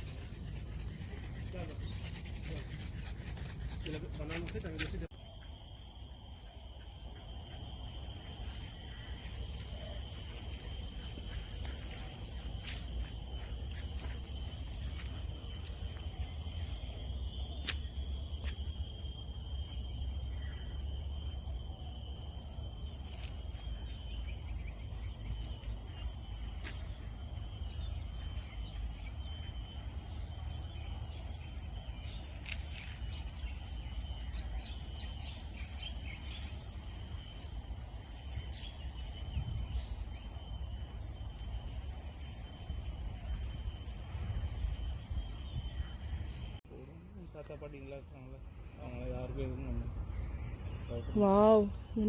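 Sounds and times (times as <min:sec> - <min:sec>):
insects buzzing: 0:00.0 - 0:52.0
pulsed insect trill: 0:00.0 - 0:52.0.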